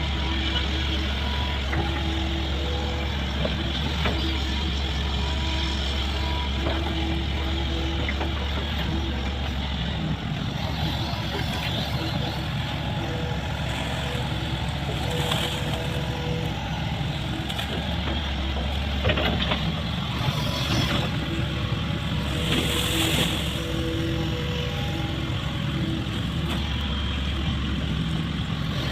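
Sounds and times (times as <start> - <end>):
excavator diesel engine running: 0.0 - 28.9.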